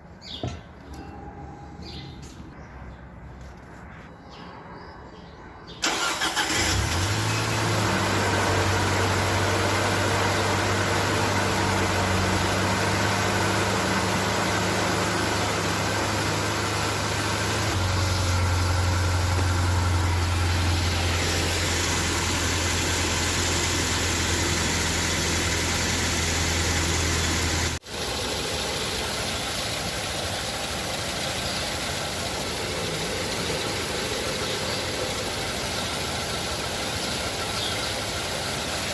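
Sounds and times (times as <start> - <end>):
car engine starting and idling: 5.7 - 38.9.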